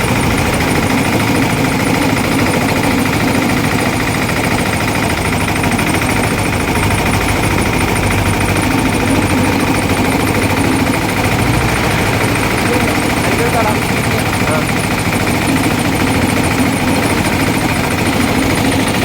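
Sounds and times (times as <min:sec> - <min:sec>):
crushing machine droning: 0:00.0 - 0:19.0.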